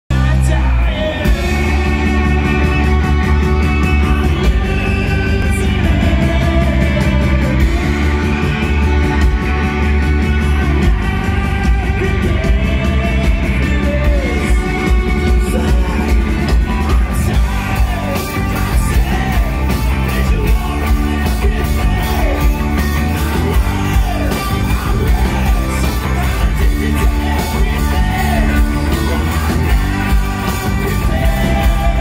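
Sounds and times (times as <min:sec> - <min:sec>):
lead singer singing: 0:00.1 - 0:32.0
rock band playing live: 0:00.1 - 0:32.0.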